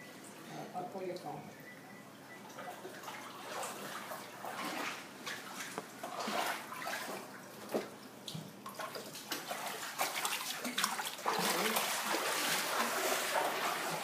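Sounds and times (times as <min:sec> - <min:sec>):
floodwater sloshing and splashing: 0:02.4 - 0:14.0.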